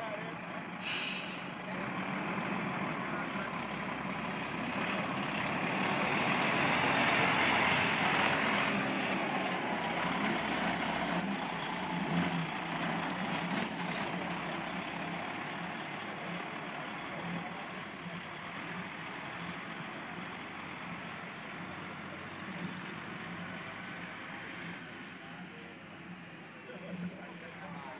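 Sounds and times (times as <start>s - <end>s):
diesel truck engine running: 0.0s - 27.9s.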